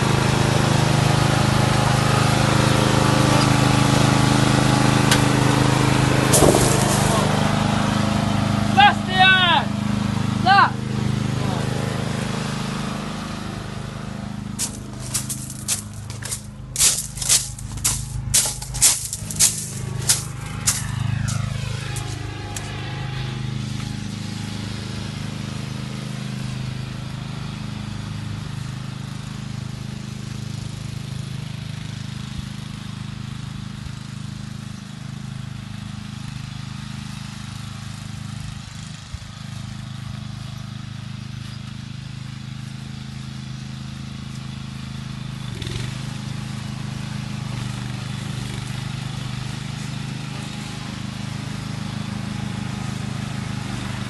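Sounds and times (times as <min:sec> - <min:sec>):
lawnmower engine running: 0:00.0 - 0:54.0.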